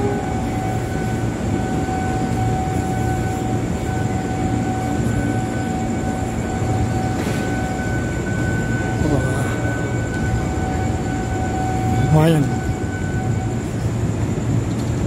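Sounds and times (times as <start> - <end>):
high whine: 0.0 - 15.0
train low drone: 0.0 - 15.0.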